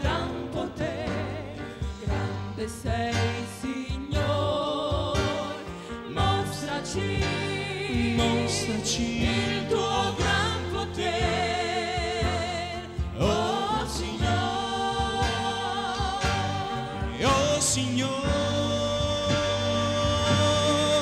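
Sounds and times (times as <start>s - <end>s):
drum kit: 0.0s - 21.0s
electronic keyboard: 0.0s - 21.0s
voices singing with vibrato: 0.0s - 21.0s.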